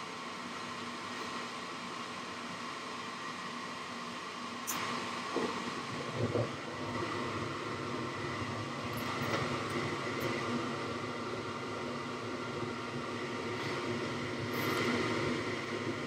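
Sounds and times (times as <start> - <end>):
furnace blower running: 0.0 - 16.0.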